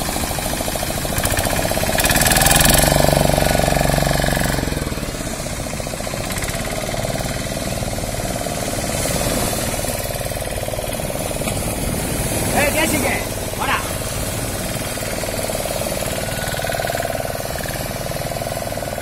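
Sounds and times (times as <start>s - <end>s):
boat engine knocking: 0.0s - 19.0s
waves breaking: 0.0s - 19.0s.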